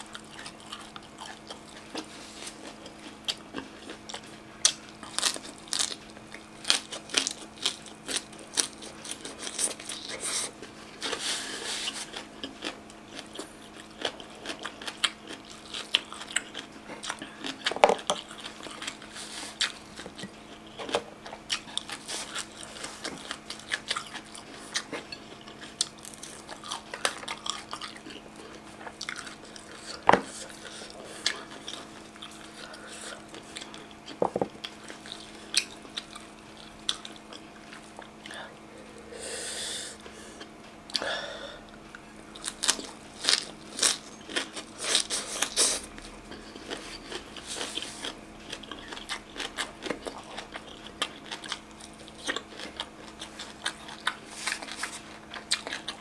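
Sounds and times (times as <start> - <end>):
wet chewing and biting crunches: 0.0 - 38.4, 42.3 - 56.0
faint steady hum: 0.0 - 56.0.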